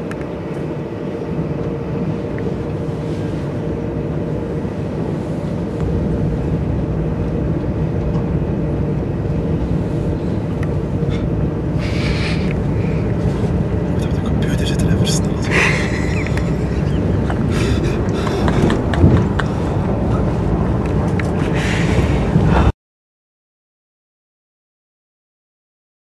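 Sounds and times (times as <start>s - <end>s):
train interior rumble: 0.0s - 22.7s.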